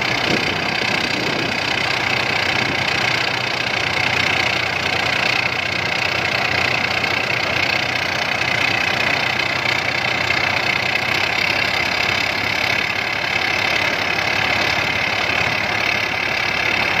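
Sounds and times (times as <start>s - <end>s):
combine harvester clattering: 0.0s - 17.0s.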